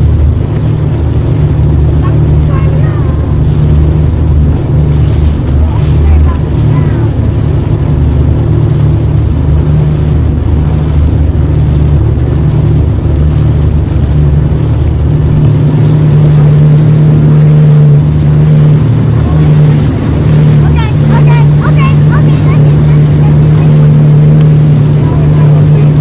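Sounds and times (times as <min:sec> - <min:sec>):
jet ski engine drone: 0:00.0 - 0:26.0
wind and water rushing: 0:00.0 - 0:26.0.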